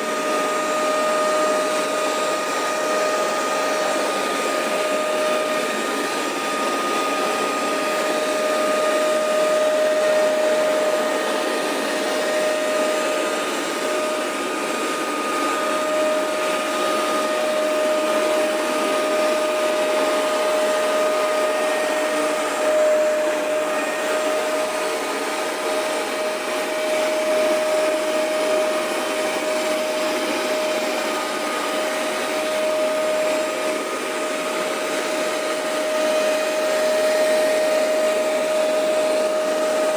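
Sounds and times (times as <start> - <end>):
air and water suction rushing: 0.0 - 39.9
carpet cleaner motor whine: 0.0 - 39.9.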